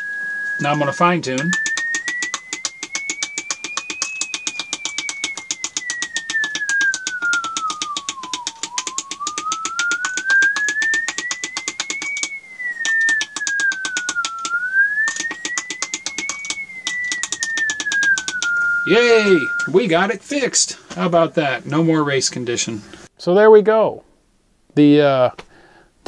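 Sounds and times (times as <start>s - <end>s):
gliding radio beat tone: 0.6s - 21.6s
fast even ticking: 0.6s - 21.8s.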